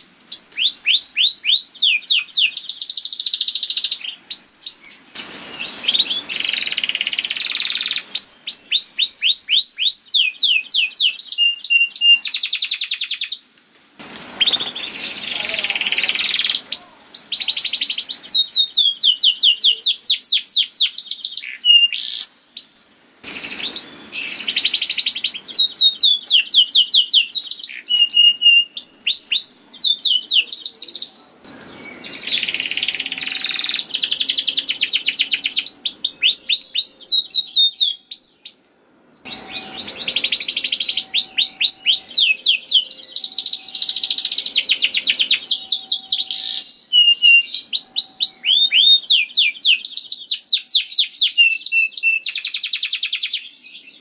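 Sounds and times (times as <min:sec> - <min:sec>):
canary singing trills: 0:00.0 - 0:13.5, 0:14.4 - 0:54.0.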